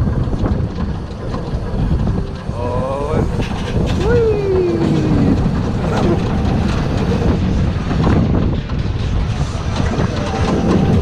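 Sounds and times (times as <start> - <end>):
roller coaster wheels rumbling: 0.0 - 11.0.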